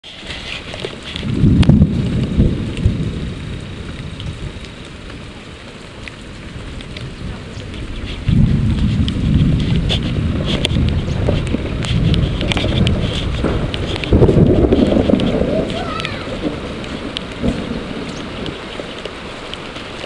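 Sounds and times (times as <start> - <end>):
steady rain falling: 0.0 - 20.0
heavy low rumble: 0.1 - 20.0.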